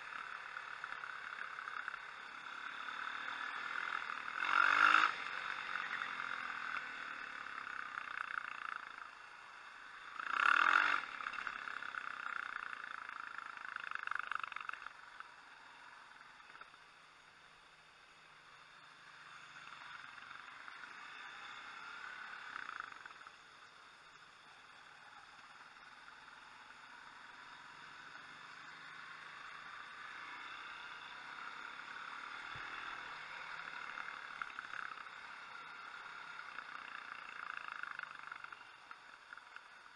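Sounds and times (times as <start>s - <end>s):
motorcycle engine revving: 0.0s - 16.8s, 17.8s - 39.9s.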